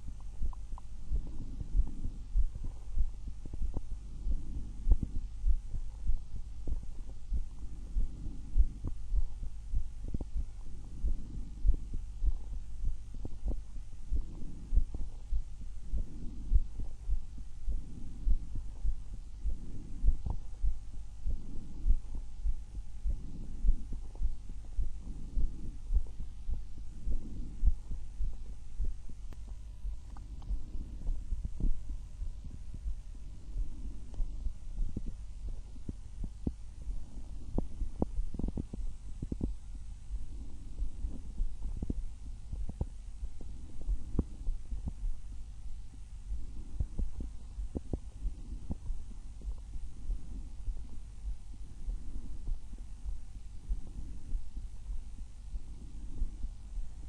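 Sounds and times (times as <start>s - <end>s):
heartbeat thumping: 0.0s - 57.0s
soft breathing: 0.0s - 57.0s.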